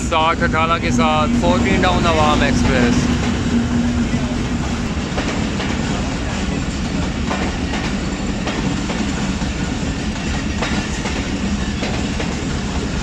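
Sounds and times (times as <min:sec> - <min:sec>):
train rolling rumble: 0:00.0 - 0:13.0
train wheels clicking over rail joints: 0:01.2 - 0:13.0.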